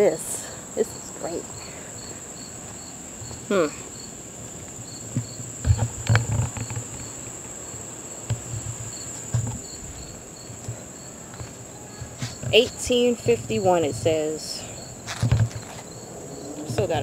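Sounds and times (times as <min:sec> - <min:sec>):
insect chirping regularly: 0:00.0 - 0:17.0.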